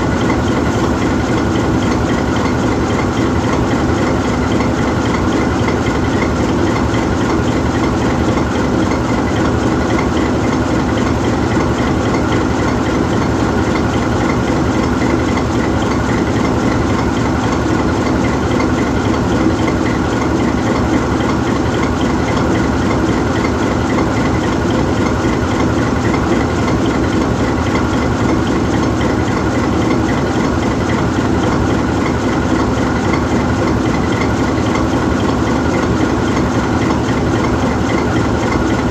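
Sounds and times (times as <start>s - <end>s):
diesel locomotive engine idling: 0.0s - 38.9s.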